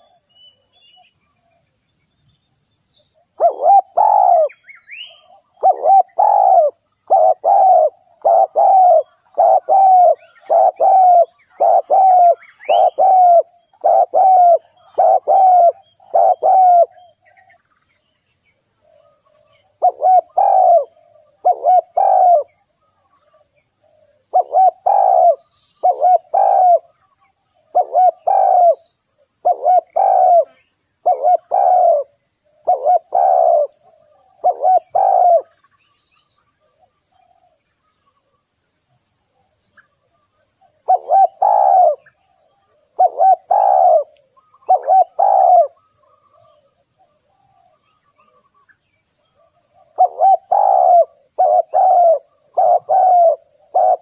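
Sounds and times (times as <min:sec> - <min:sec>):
dove cooing: 0:00.0 - 0:00.7, 0:03.2 - 0:17.6, 0:18.8 - 0:35.6, 0:40.7 - 0:48.4, 0:49.4 - 0:54.0.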